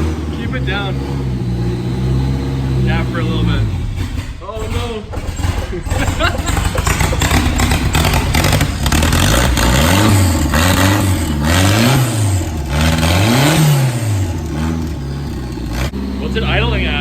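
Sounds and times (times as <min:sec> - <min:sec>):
car engine revving loudly: 0:00.0 - 0:17.0.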